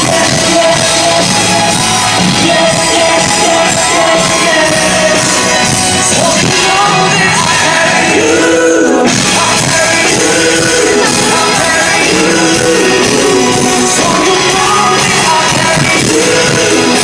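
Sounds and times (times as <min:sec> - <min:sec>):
loud band playing: 0:00.0 - 0:17.0
vocal group singing: 0:00.0 - 0:17.0.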